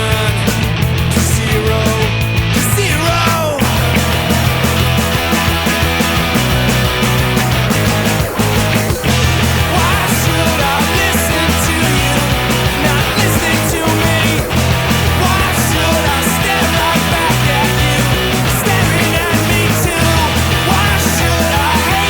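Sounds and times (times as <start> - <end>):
full-band rock music: 0.0 - 22.0.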